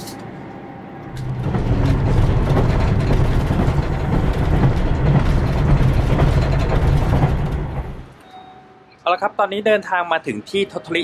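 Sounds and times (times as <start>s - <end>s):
train ride rumble: 0.0s - 11.0s.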